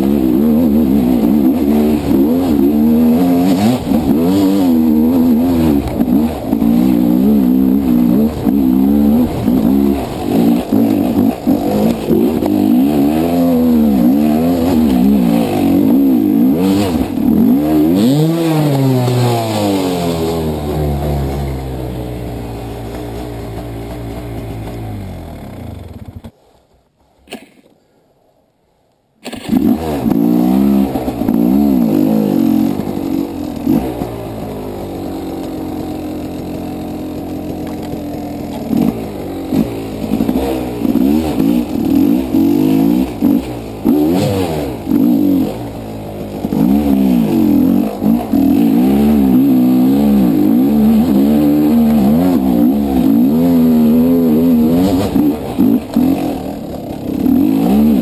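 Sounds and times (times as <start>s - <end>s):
dirt bike engine revving: 0.0s - 26.3s, 29.2s - 58.0s.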